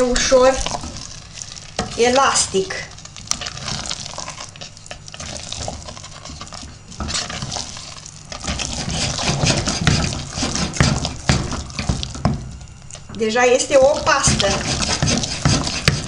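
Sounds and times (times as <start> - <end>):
wooden spoon stirring thick paste: 0.0 - 16.0.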